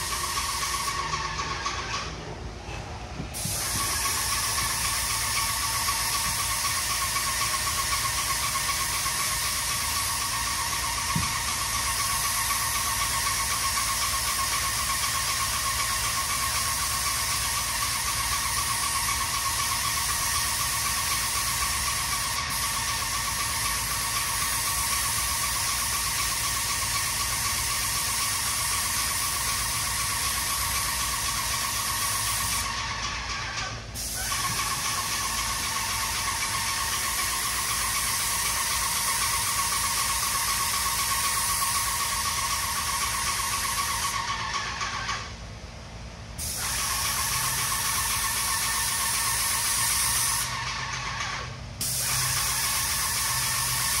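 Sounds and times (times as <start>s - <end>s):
paint spray gun hissing: 0.0s - 2.1s, 3.3s - 45.3s, 46.4s - 54.0s.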